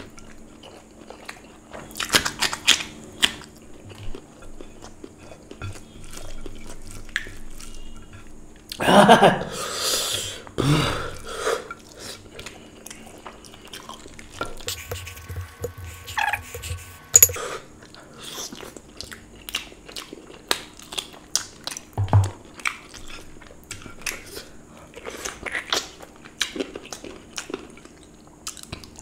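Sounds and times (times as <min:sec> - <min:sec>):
person chewing with wet mouth sounds: 0:00.0 - 0:08.8, 0:11.7 - 0:29.0.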